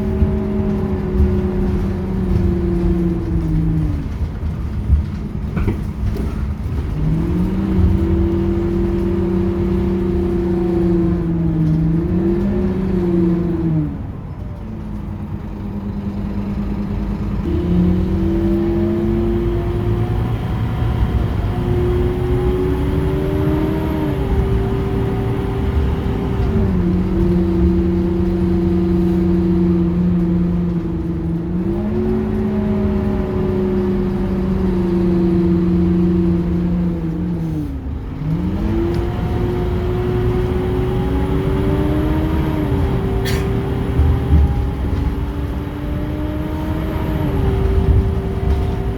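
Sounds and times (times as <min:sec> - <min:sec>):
bus engine drone: 0:00.0 - 0:48.9.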